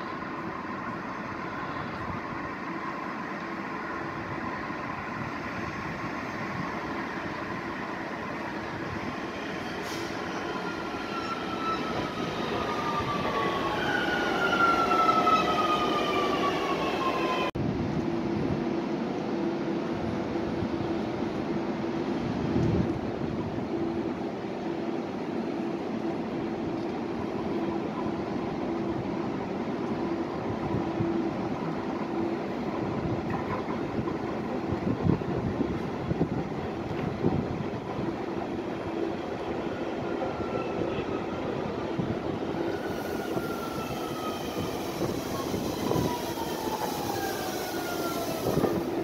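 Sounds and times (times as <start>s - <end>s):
electric train hum: 0.0s - 49.0s.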